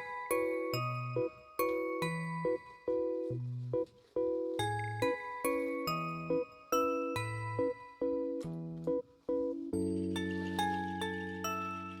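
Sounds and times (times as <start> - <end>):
soft chiming keyboard notes: 0.0 - 12.0.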